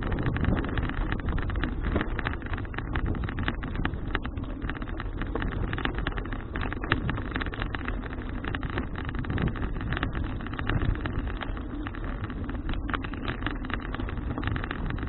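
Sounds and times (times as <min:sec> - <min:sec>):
crackles and rattles: 0:00.0 - 0:15.0
wind and road noise: 0:00.0 - 0:15.0.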